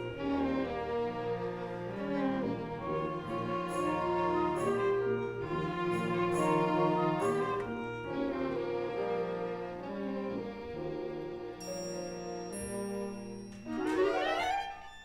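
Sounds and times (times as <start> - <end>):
orchestral strings melody: 0.0 - 15.0.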